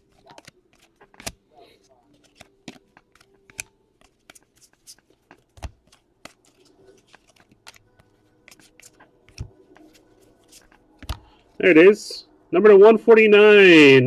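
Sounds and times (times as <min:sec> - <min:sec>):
cards clicking and slapping: 0:00.0 - 0:11.5.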